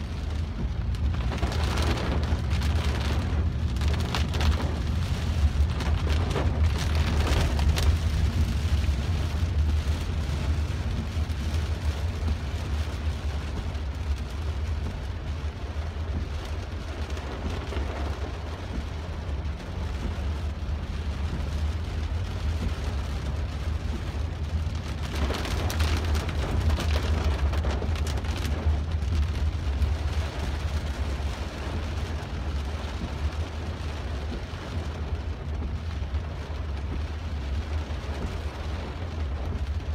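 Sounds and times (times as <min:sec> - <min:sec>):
engine and road hum: 0:00.0 - 0:39.9
heavy rain on car roof: 0:00.0 - 0:39.9.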